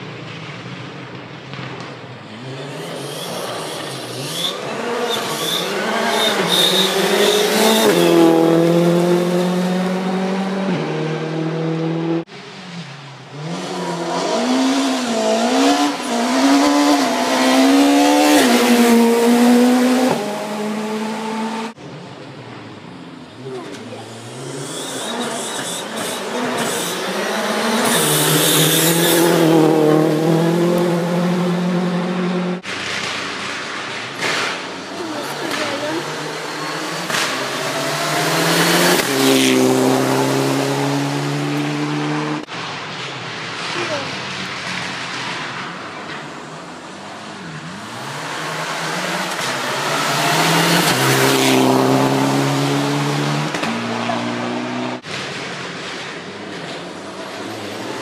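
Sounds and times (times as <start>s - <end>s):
rally car passing at full throttle: 1.6s - 58.0s.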